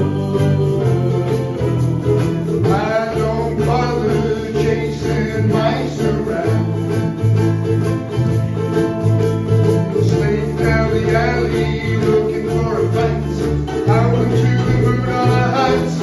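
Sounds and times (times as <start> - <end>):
sliding lead melody: 0.0 - 16.0
steady bass line: 0.0 - 16.0
strummed ukuleles: 0.0 - 16.0.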